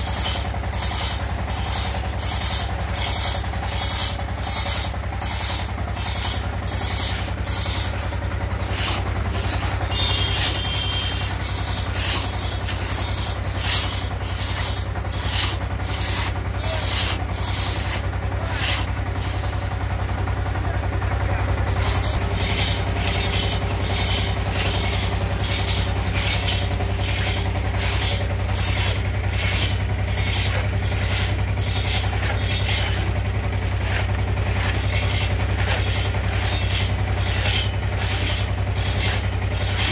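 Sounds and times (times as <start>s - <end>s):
hand saw rasping through wood: 0.0s - 19.8s, 21.6s - 39.9s.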